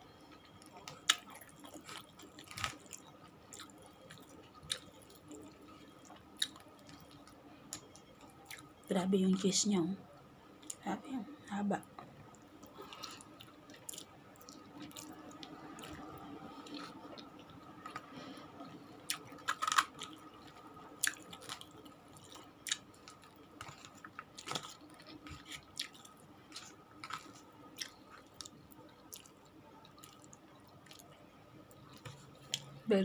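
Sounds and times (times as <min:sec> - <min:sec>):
faint steady hum: 0:00.0 - 0:33.0
person chewing food: 0:00.4 - 0:08.8, 0:12.4 - 0:32.8.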